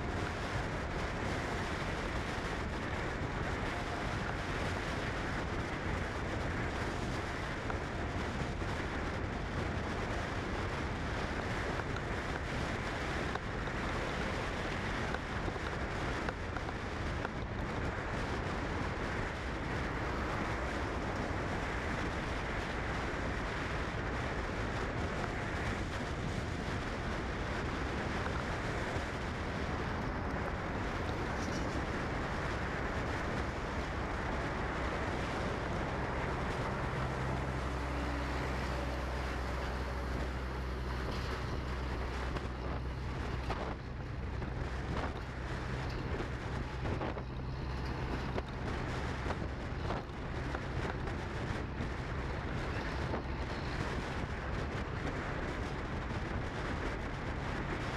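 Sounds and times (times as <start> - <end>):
steady low hum: 0.0 - 57.9
steady rumbling noise: 0.0 - 57.9
wind on microphone: 0.0 - 57.9.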